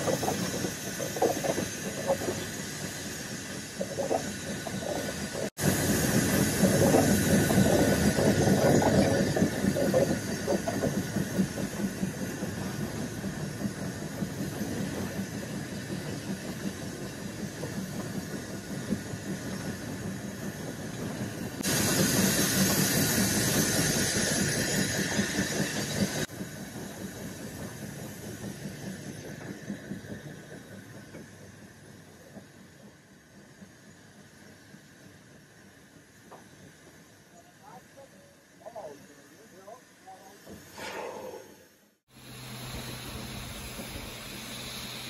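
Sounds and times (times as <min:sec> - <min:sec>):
steam hissing: 0:00.0 - 0:45.0
train rumbling: 0:00.0 - 0:45.0.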